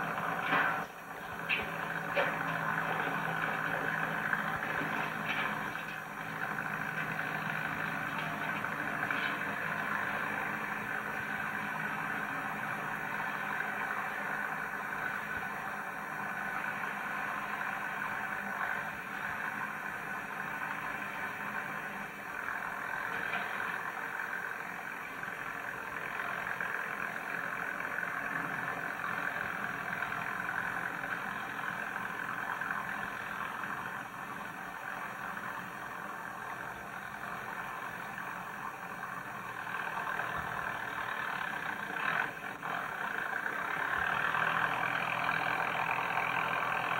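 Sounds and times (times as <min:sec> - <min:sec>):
tractor engine droning: 0:00.0 - 0:46.9.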